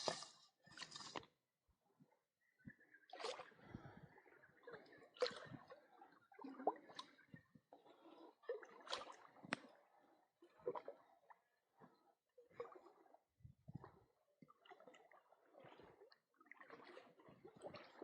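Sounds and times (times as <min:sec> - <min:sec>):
faint water splashing and dripping: 0:00.0 - 0:01.4, 0:02.6 - 0:18.0.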